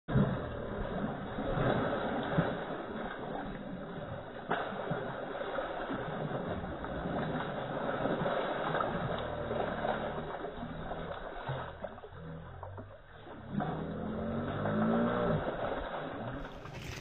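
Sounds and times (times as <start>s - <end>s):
low steady hum: 0.1s - 17.0s
water splashing: 0.1s - 17.0s.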